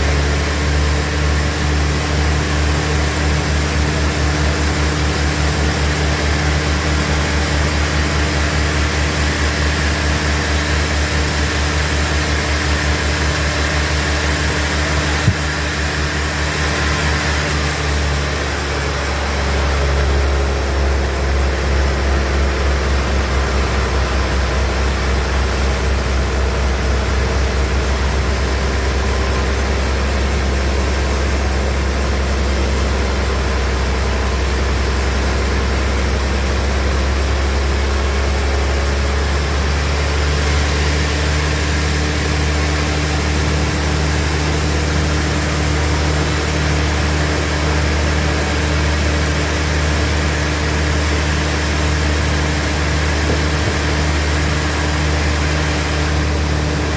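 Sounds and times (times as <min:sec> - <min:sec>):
sawmill machinery humming: 0:00.0 - 0:56.9.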